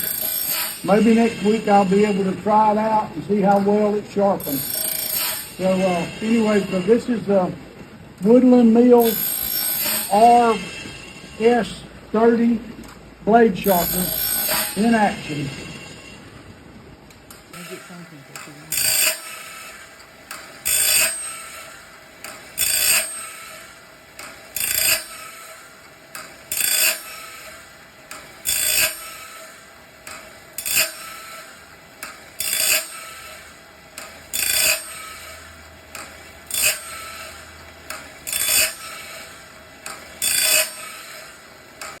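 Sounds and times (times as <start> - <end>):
grinding wheel rasping on blade: 0.0 - 7.5, 8.2 - 12.6, 13.6 - 16.4, 17.5 - 42.0
machine running: 0.0 - 12.7, 13.6 - 42.0.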